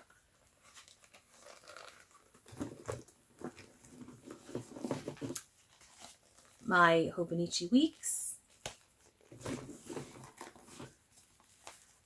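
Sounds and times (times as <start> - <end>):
rustling and crinkling: 0.0 - 6.9, 7.8 - 12.0.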